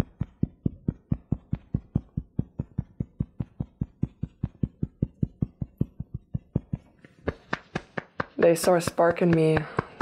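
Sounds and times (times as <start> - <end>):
fingertips tapping on skin: 0.0 - 10.0.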